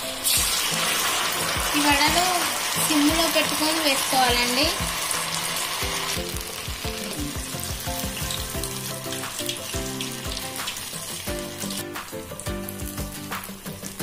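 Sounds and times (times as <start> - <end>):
background music with steady beat: 0.0 - 14.0
food deep-frying in hot oil: 0.0 - 14.0.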